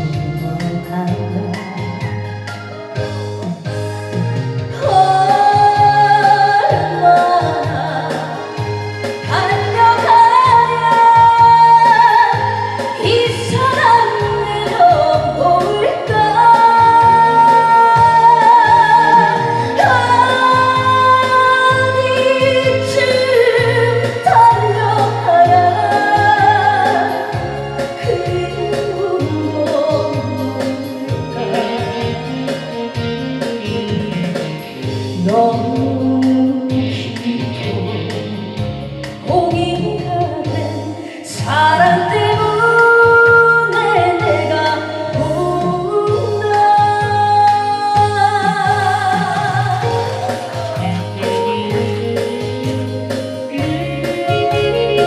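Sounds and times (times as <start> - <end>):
electronic organ accompaniment: 0.0 - 55.0
woman singing: 0.0 - 55.0.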